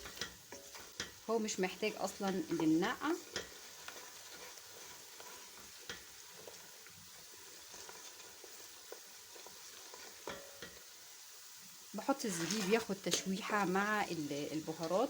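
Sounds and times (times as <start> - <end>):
onions frying in ghee: 0.0 - 15.0.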